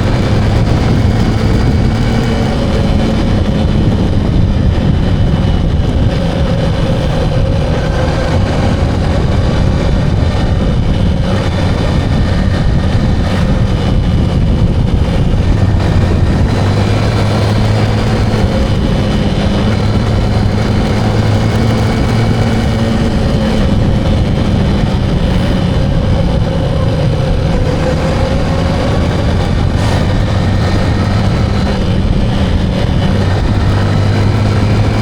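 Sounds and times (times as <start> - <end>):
motorcycle engine running: 0.0 - 35.0
road noise: 0.0 - 35.0.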